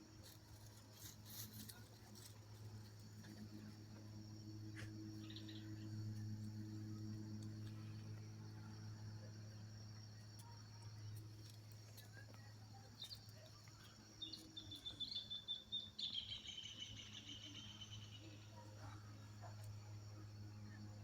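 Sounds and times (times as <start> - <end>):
insects chirring: 0.0 - 21.0
low steady hum: 0.0 - 21.0.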